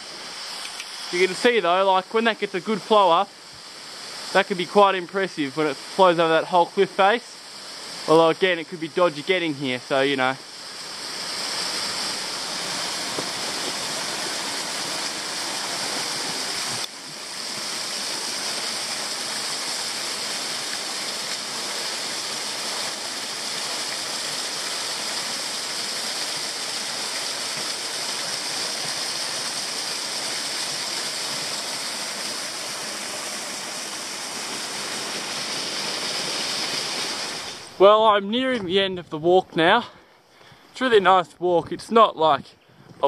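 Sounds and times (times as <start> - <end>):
waterfall splashing on rock: 2.7 - 37.7.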